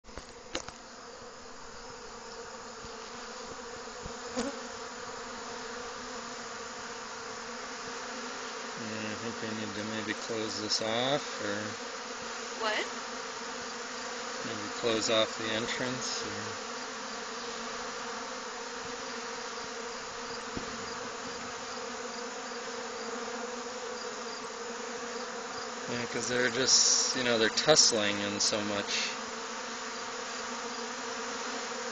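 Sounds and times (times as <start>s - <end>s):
honey bees buzzing: 0.1s - 31.9s.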